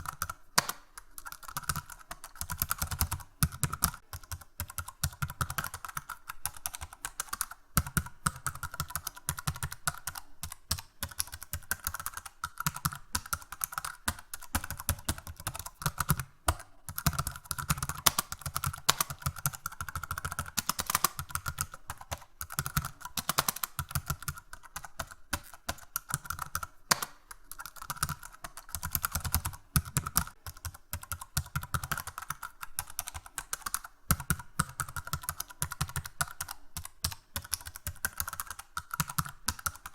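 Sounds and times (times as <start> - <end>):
fast typing on computer keyboard: 0.0 - 39.9.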